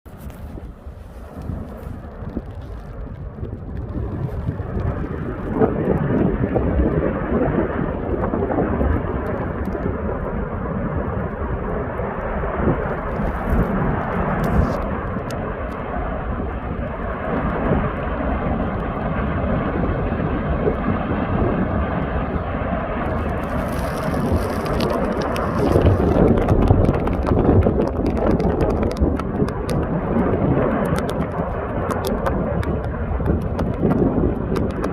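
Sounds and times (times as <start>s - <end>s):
faint crackles: 0.1s - 10.4s, 11.0s - 18.1s, 23.0s - 34.9s
volcanic eruption rumbling roar: 0.3s - 34.9s.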